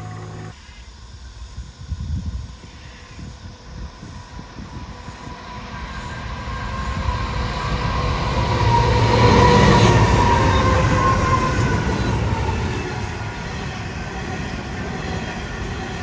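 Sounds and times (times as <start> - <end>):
diesel locomotive engine rumble: 0.0 - 16.0
high whine: 0.0 - 16.0.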